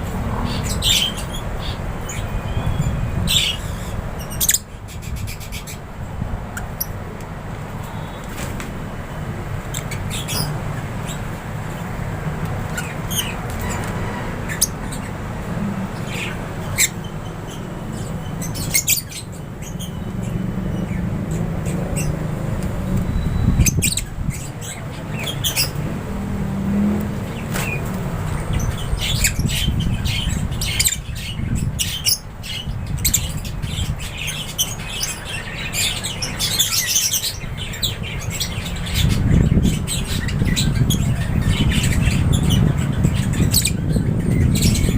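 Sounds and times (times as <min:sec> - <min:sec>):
birds chirping and squawking: 0:00.0 - 0:44.9.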